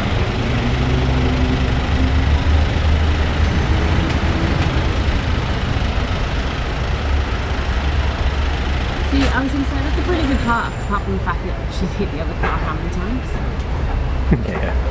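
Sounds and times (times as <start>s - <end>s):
engine idling: 0.0s - 14.9s
street noise: 0.0s - 14.9s.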